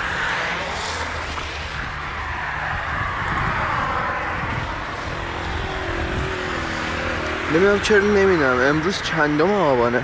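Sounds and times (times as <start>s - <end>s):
car engine rumble: 0.0s - 10.0s
tyres on wet road: 0.0s - 10.0s.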